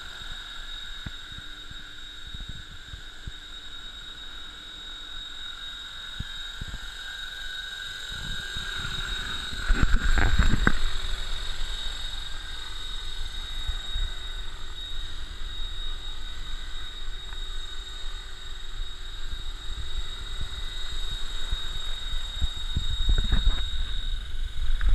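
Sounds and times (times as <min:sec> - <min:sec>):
model helicopter motor whine: 0:00.0 - 0:24.9.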